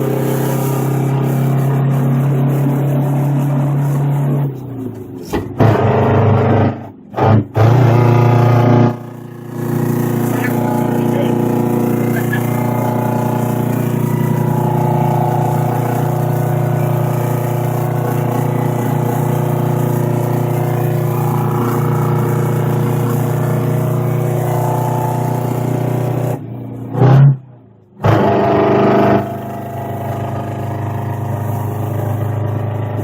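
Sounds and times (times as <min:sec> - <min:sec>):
loud exhaust burst: 0:00.0 - 0:27.4, 0:28.0 - 0:33.0
diesel truck engine running: 0:00.0 - 0:33.0.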